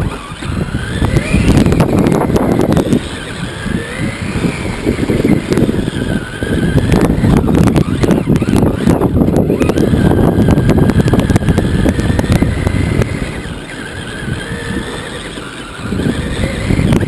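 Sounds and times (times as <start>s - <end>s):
electric motor whine: 0.0s - 17.0s
rattling rumble of toy truck: 0.0s - 17.0s.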